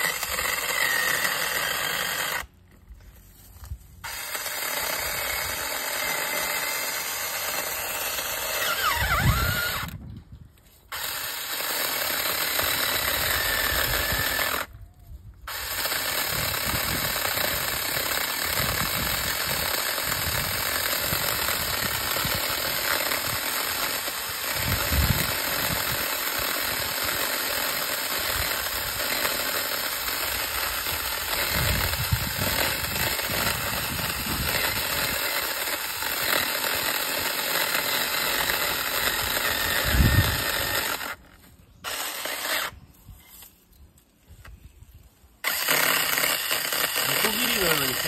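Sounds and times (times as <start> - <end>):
chainsaw cutting wood: 0.0 - 10.0, 10.8 - 14.7, 15.5 - 42.8, 45.4 - 48.0.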